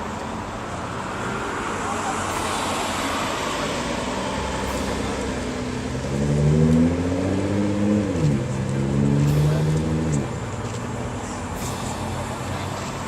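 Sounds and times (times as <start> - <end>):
car engine revving: 1.0 - 13.0.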